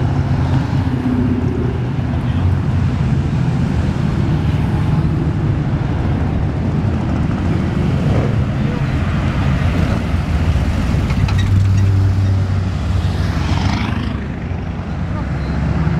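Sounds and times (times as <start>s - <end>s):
vehicles driving past: 0.0s - 15.9s.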